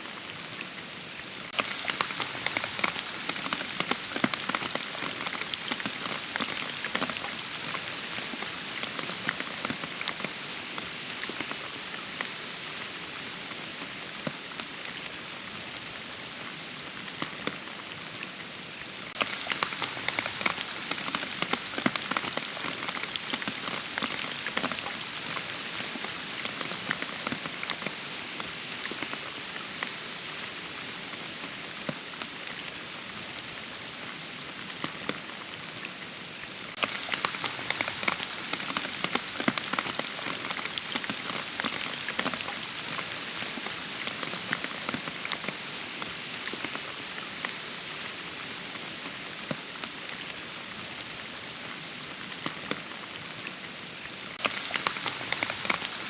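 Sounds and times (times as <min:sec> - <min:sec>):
steady rain with ticking drops: 0:00.0 - 0:56.0.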